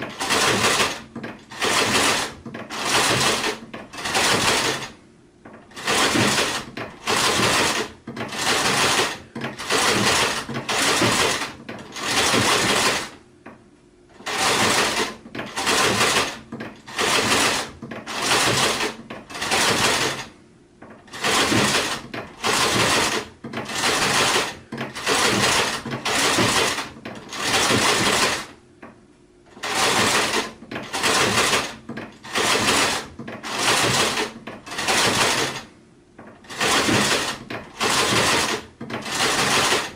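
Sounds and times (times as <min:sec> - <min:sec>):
sewing machine stitching: 0:00.0 - 0:13.2, 0:14.1 - 0:28.6, 0:29.5 - 0:39.9.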